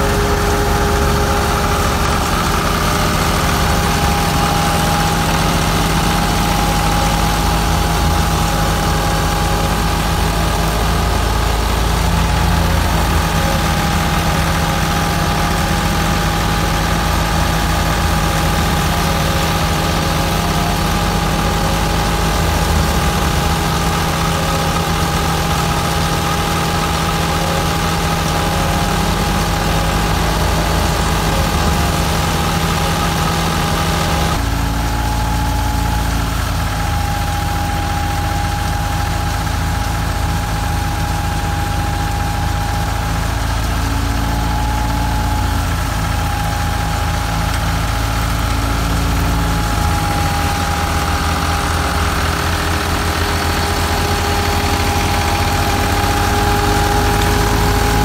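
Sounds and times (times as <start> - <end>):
high whine of machinery: 0.0 - 58.0
tractor diesel engine running: 0.0 - 58.0.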